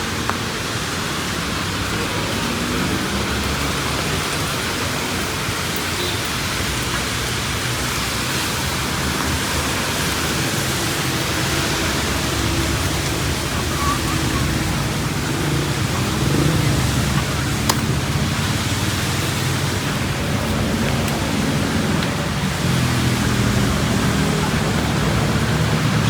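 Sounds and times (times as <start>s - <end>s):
steady rainfall hiss: 0.0s - 26.0s
street traffic rumble: 0.0s - 26.0s.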